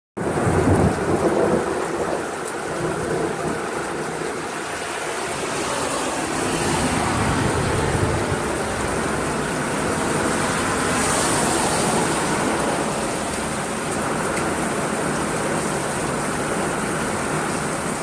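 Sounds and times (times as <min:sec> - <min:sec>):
heavy rain rushing: 0:00.2 - 0:18.0
wind: 0:00.2 - 0:18.0.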